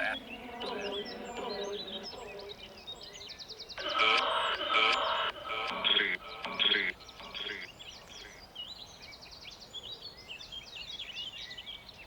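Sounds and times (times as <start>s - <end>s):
small birds chirping and whistling: 0.0s - 12.0s.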